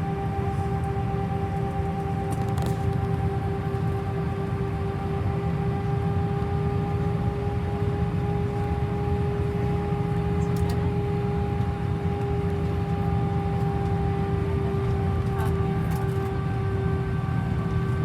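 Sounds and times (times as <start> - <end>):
jet engine drone in cabin: 0.0 - 18.0.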